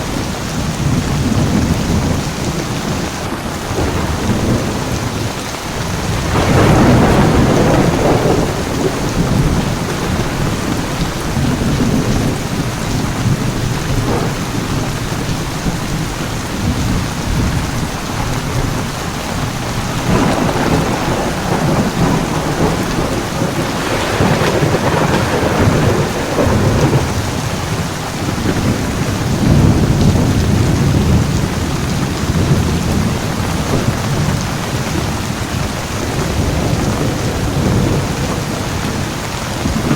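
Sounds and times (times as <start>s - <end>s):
heavy rain falling: 0.0s - 39.9s
rolling thunder: 0.0s - 39.9s.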